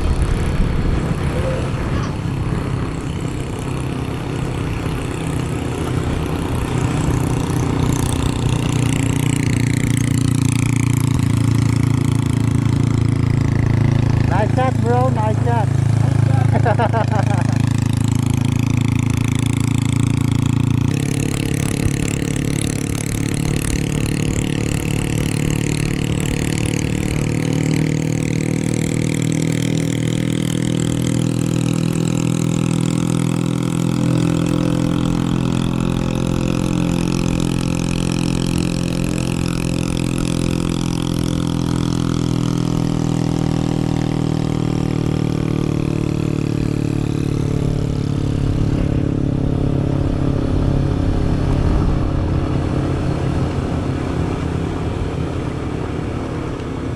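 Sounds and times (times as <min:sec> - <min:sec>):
motorcycle engine running: 0:00.0 - 0:56.9
wind and road noise: 0:00.0 - 0:56.9.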